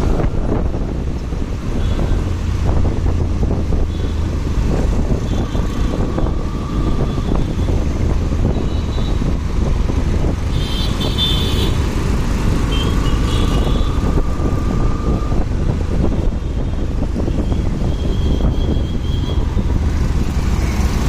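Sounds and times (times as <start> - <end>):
motorcycle engine and wind rumble: 0.0 - 21.0.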